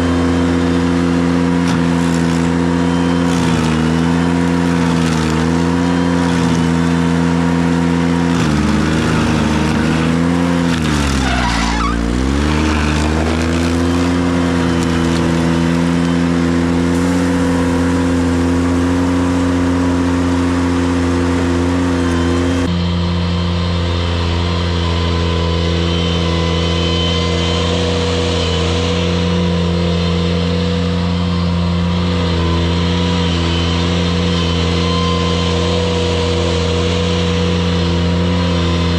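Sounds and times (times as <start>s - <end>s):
stump grinder hiss: 0.0s - 23.2s, 23.9s - 38.9s
tractor engine running: 0.0s - 38.9s.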